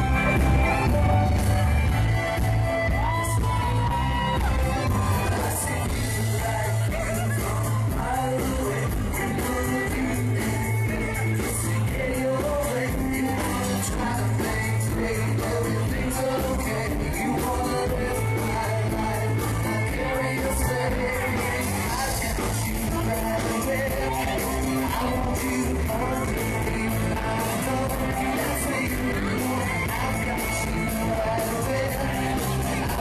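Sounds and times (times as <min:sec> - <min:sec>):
live pop-rock band: 0:00.0 - 0:33.0
man singing into microphone: 0:00.0 - 0:33.0.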